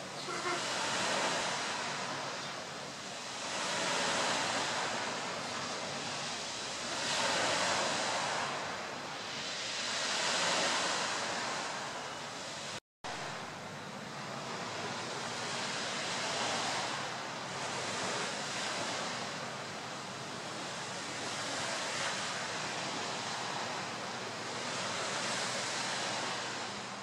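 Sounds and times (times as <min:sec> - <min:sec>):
sea surf washing: 0:00.0 - 0:27.0.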